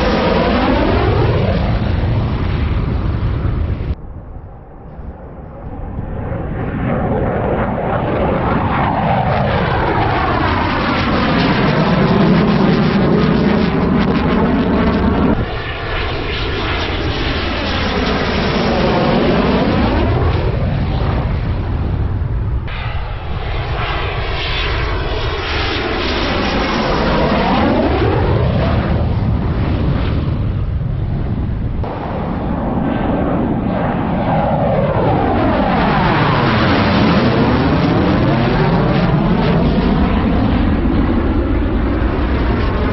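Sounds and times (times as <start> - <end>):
jet engine whine: 0.0 - 42.9.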